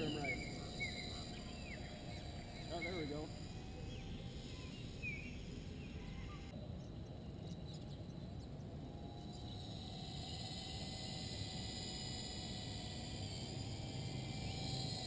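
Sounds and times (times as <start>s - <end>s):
small helicopter motor whine: 0.0s - 6.6s, 7.6s - 15.0s.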